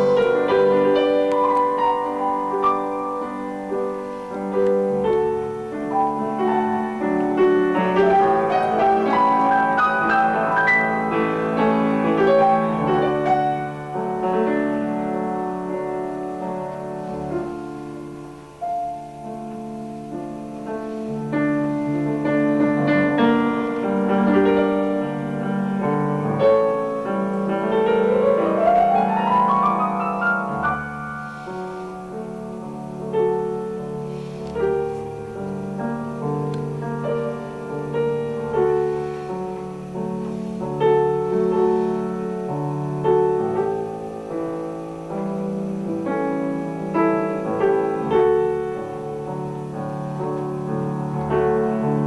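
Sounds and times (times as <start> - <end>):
piano piece: 0.0 - 52.0.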